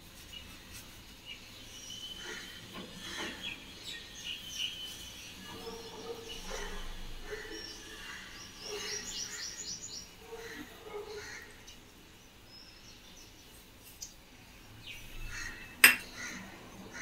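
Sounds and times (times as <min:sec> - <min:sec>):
faint kitchen sounds: 0:00.0 - 0:12.1, 0:13.4 - 0:17.0.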